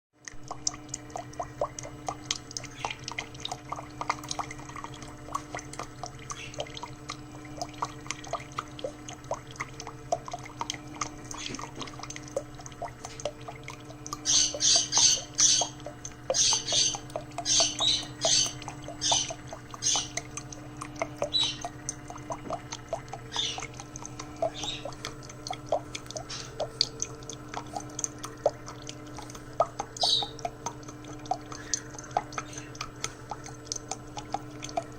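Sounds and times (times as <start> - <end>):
coffee maker hum: 0.2 - 34.9
water dripping and gurgling: 0.2 - 34.9.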